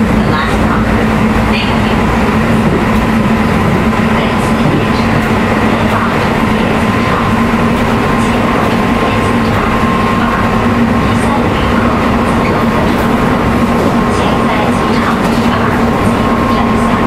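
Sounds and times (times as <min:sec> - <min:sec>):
steady humming tone: 0:00.0 - 0:17.0
train wheels rumbling: 0:00.0 - 0:17.0.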